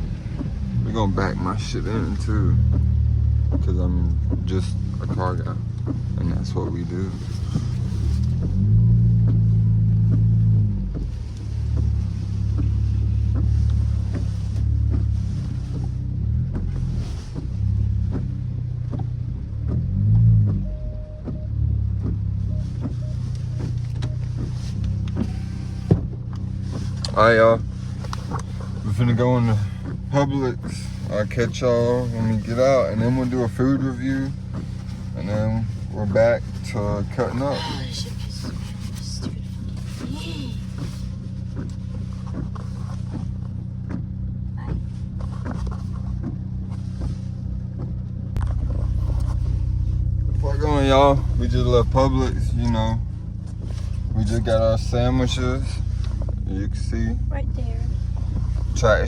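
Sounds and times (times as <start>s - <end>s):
car exhaust running at low revs: 0.0s - 59.0s.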